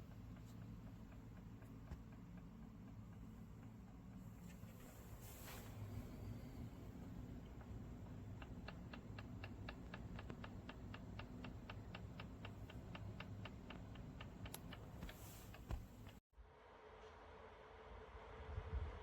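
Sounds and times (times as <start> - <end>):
mechanical ticking: 0.0 - 5.2, 5.8 - 16.2.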